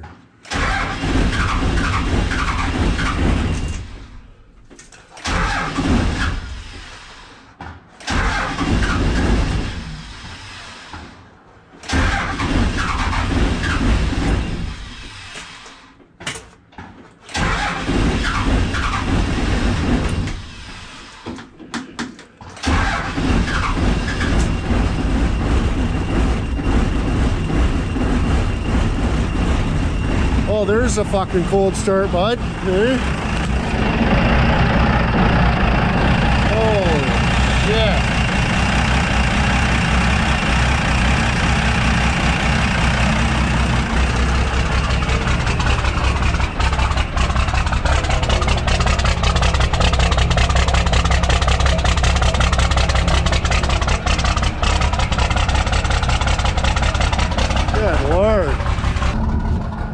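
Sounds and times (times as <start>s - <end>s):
truck engine cold-starting: 0.4s - 16.0s, 17.2s - 21.7s, 22.5s - 59.9s.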